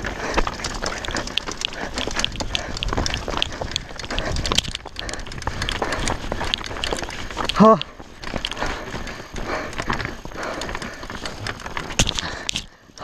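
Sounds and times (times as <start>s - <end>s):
bike parts rattling: 0.0s - 13.0s
stones crunching under tyres: 0.0s - 13.0s.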